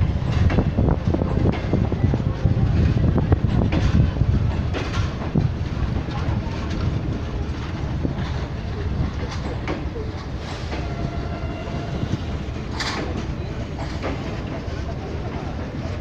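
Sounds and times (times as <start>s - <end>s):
train wheels rumbling on track: 0.0s - 16.0s
wheels clacking over rail joints: 0.0s - 16.0s.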